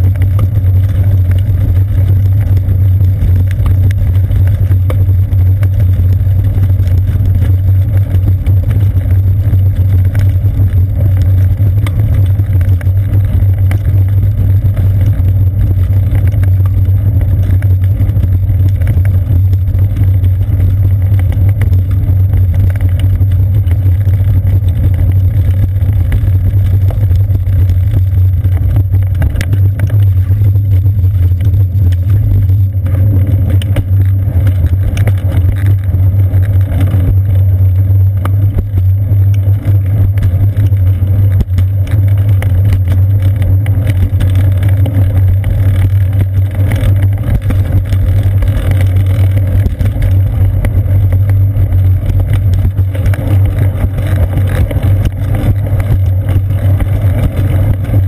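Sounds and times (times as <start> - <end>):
bicycle road vibration: 0.0 - 58.0
wind rumble: 0.0 - 58.0.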